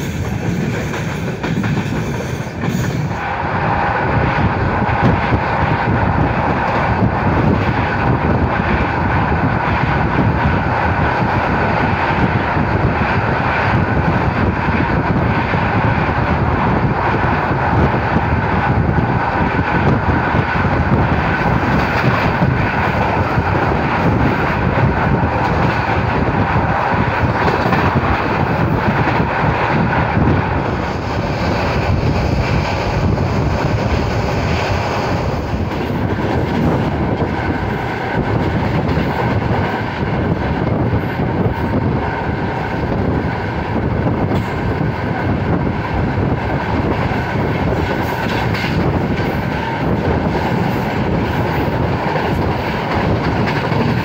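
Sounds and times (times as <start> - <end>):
train wheels on rail: 0.0 - 54.0
wind noise: 0.0 - 54.0.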